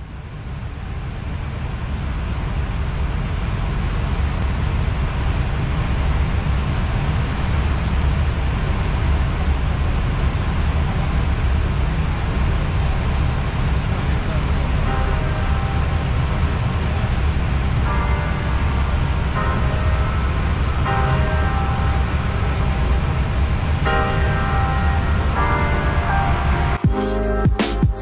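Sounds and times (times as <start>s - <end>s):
rushing airflow in cockpit: 0.0s - 26.8s.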